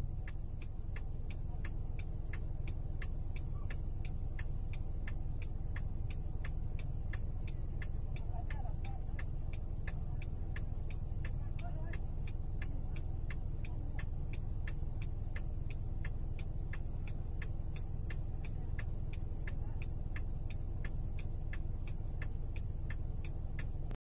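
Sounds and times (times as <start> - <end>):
car engine idling: 0.0 - 24.0
indicator ticking: 0.0 - 24.0.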